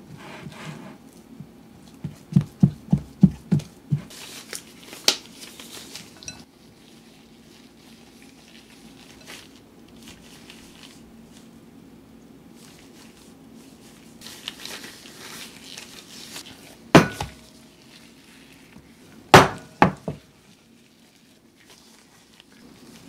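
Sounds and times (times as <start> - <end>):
hands squishing sticky dough: 1.2 - 23.0.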